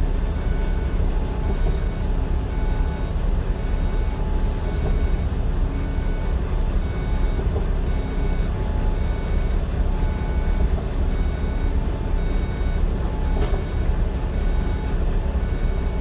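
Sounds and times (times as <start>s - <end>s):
road vehicle rumble: 0.0s - 16.0s
short electronic beeps: 0.4s - 16.0s.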